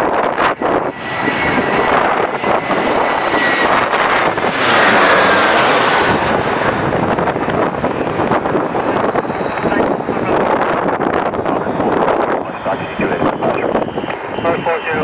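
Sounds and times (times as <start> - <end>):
airliner engine noise: 0.0 - 15.0
faint whine dropping in pitch: 0.0 - 15.0.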